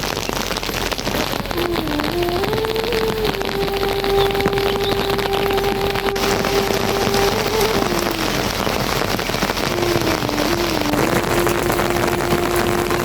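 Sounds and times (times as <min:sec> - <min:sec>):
dense rain-like hiss: 0:00.0 - 0:13.0.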